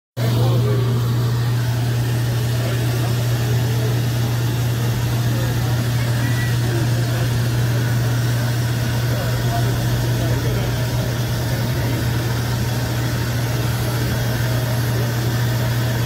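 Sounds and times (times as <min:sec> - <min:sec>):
faint crowd voices: 0:00.2 - 0:16.0
low mechanical hum: 0:00.2 - 0:16.0.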